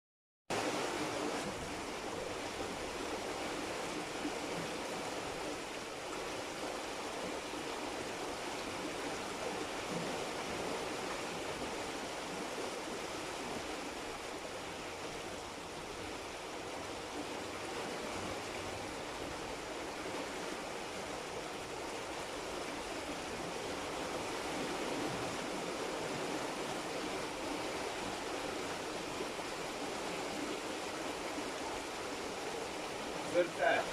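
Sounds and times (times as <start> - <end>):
steady rain falling: 0.5 - 33.9.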